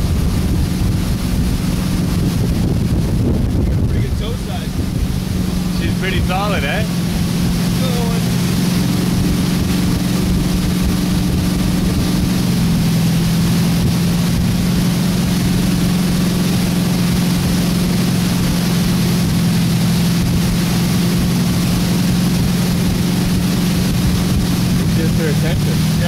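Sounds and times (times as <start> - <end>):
boat engine running: 0.0 - 26.0
rushing water hiss: 4.0 - 26.0.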